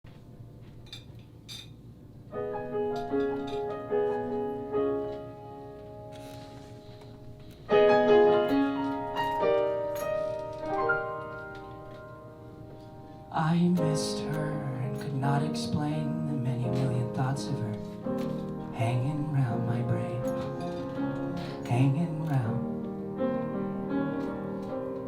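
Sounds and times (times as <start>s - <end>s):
piano playing chords and melody: 2.2s - 25.0s.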